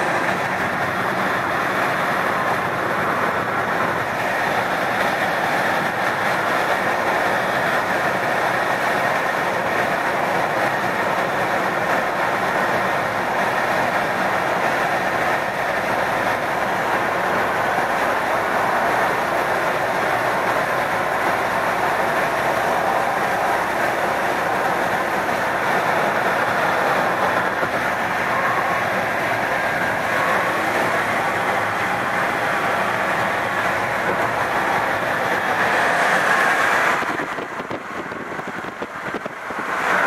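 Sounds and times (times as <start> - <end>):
tyres on concrete road: 0.0 - 40.0
wind noise: 0.0 - 40.0.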